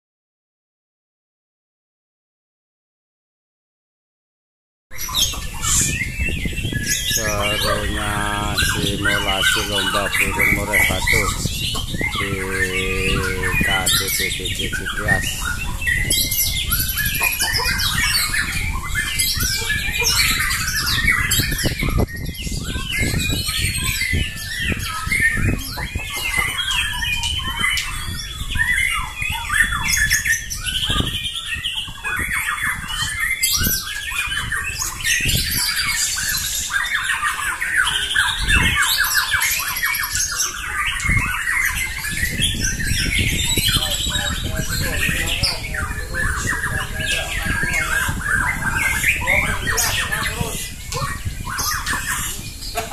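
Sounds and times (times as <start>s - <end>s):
chorus of birds singing: 4.9s - 52.9s.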